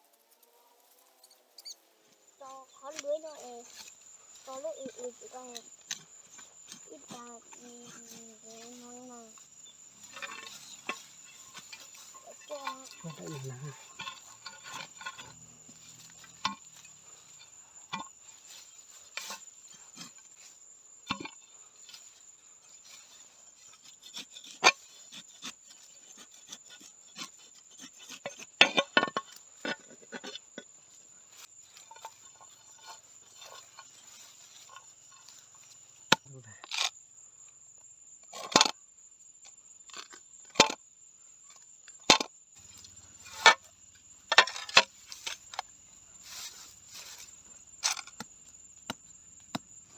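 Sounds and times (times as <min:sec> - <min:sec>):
insect trilling: 0:00.0 - 0:40.6, 0:41.4 - 0:49.9.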